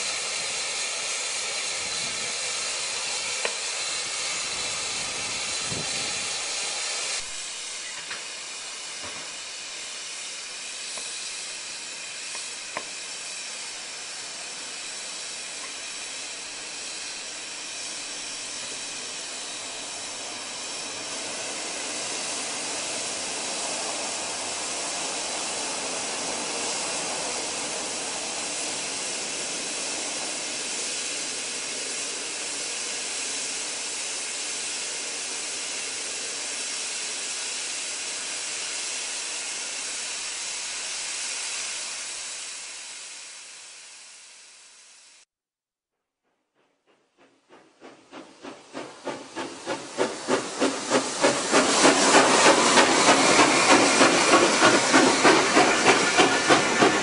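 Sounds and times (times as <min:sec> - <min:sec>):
steam hissing: 0:00.0 - 0:45.3, 0:46.6 - 0:57.0.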